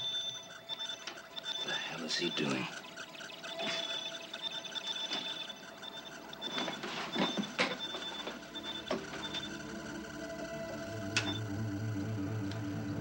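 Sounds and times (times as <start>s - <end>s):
high electronic beeps: 0.0s - 11.6s
steady low electronic tones: 0.0s - 13.0s.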